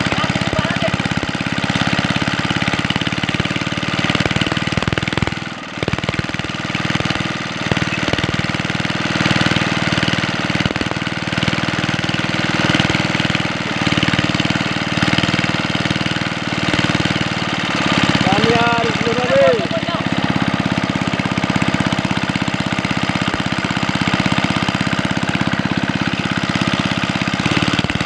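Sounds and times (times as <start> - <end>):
small engine driving water pump: 0.0 - 28.0.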